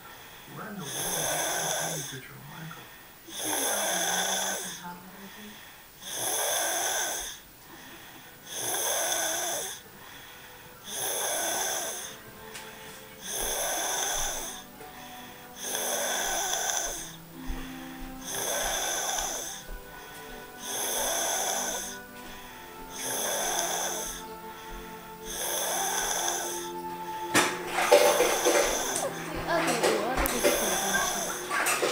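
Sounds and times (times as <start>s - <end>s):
person snoring: 0.1s - 31.9s.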